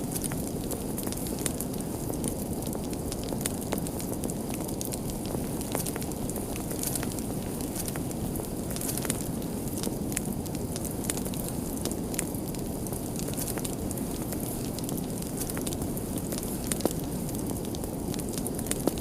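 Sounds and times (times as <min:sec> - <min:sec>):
fire crackles and pops: 0:00.0 - 0:19.0
wood fire rushing flame: 0:00.0 - 0:19.0.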